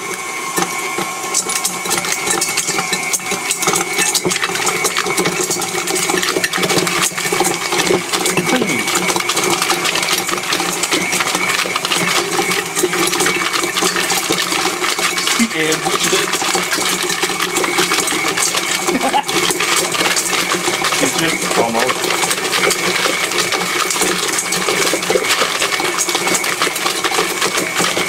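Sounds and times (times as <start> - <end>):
stand mixer motor running: 0.0 - 28.0
pieces rattling in steel bowl: 1.4 - 28.0.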